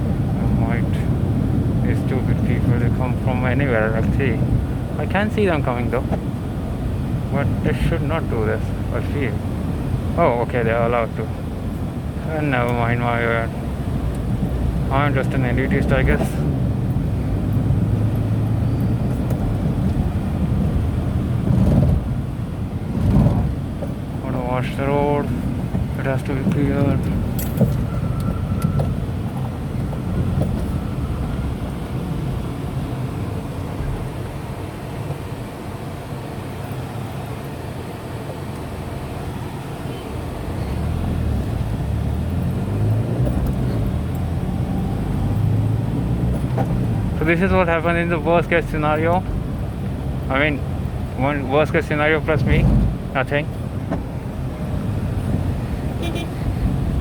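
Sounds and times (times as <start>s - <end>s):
road noise: 0.0s - 57.0s
small car engine hum: 0.0s - 57.0s.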